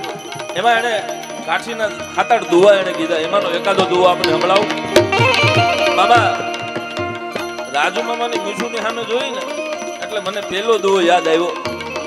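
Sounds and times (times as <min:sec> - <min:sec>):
harmonium: 0:00.0 - 0:12.0
tabla: 0:00.0 - 0:12.0.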